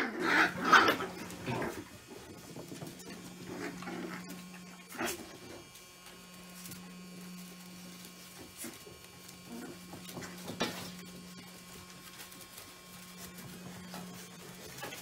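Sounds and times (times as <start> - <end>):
low electrical hum: 0.0 - 15.0
puppies scuffling on wooden floor: 0.0 - 15.0.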